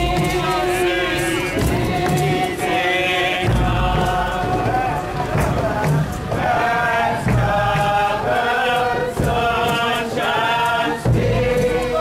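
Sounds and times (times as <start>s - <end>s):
group chanting in unison: 0.0s - 12.0s.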